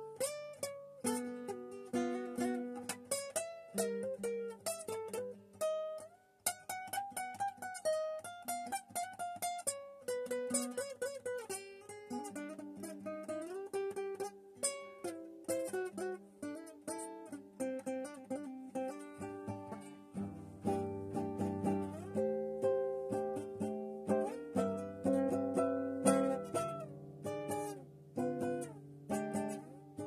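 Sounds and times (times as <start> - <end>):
plucked string instrument melody: 0.0 - 30.0.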